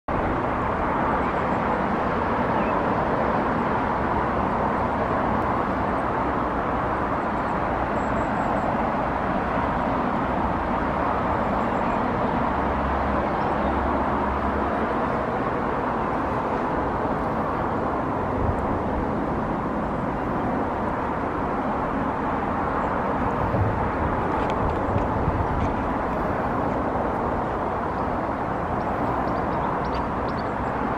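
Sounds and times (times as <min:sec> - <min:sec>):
outdoor rushing noise: 0:00.1 - 0:30.9.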